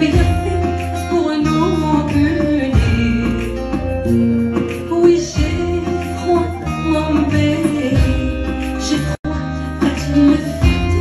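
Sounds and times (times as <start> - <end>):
band with guitar and bass: 0.0 - 11.0
woman singing into a microphone: 0.0 - 11.0.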